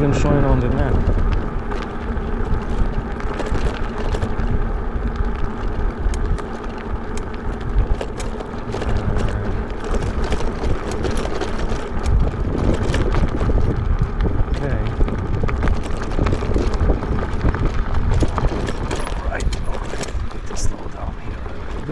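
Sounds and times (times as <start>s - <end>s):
sharp clicks and rattles: 0.0s - 21.9s
tyres rumbling on road: 0.0s - 21.9s
wind buffeting microphone: 0.0s - 21.9s.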